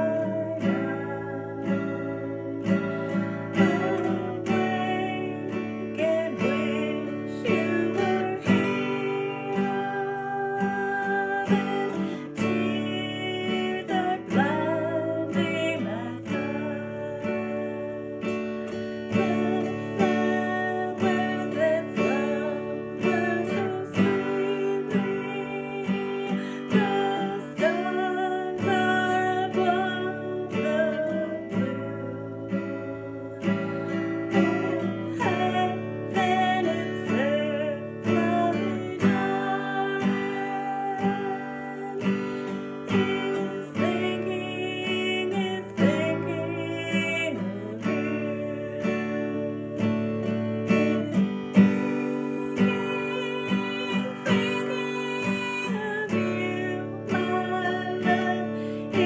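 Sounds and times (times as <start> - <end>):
acoustic guitar country tune: 0.0 - 59.0.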